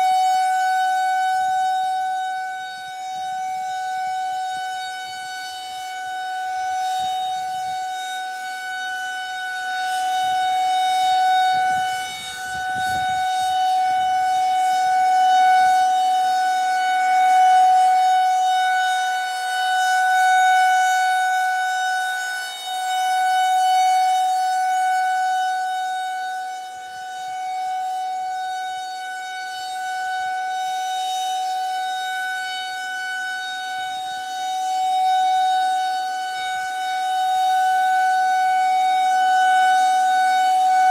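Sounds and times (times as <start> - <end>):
rotating warning siren steady tone: 0.0 - 40.9.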